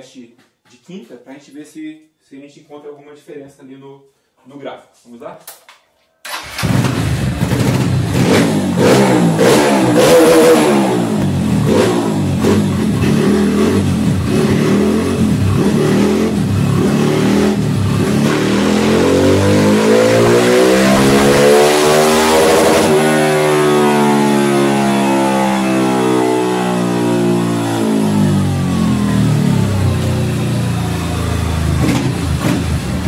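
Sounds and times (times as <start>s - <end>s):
motorcycle engine at full throttle: 6.4s - 33.0s.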